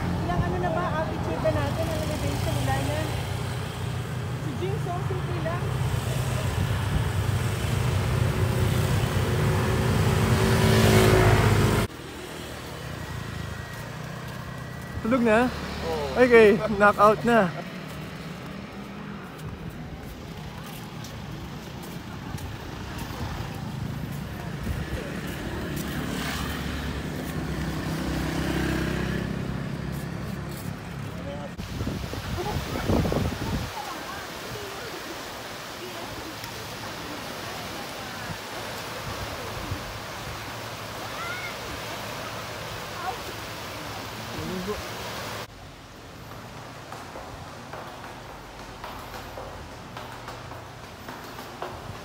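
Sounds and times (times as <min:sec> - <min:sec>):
motor scooter engines running: 0:00.0 - 0:52.0.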